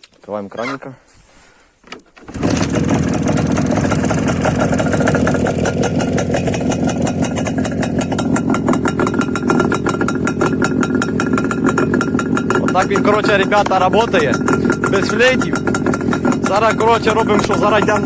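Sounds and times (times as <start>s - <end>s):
motorcycle engine starting and running: 2.2s - 18.0s
rattling exhaust beat: 2.8s - 18.0s.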